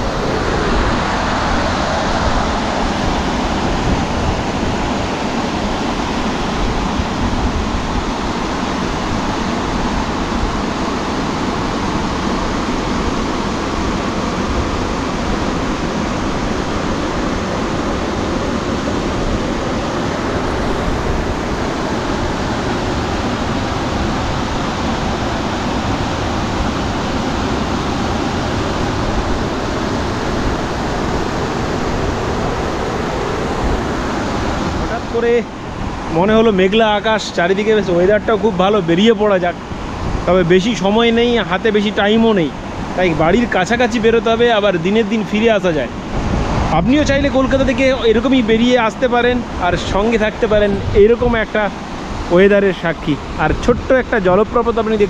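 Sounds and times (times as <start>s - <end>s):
river water rushing over weir: 0.0s - 55.0s.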